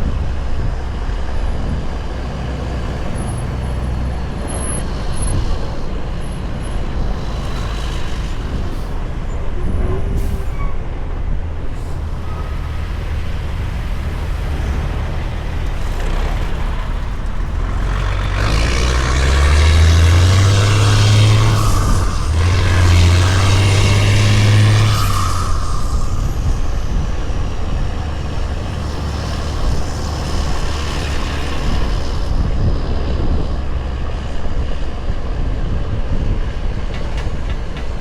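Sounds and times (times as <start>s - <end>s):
truck diesel engine rumbling: 0.0s - 38.0s.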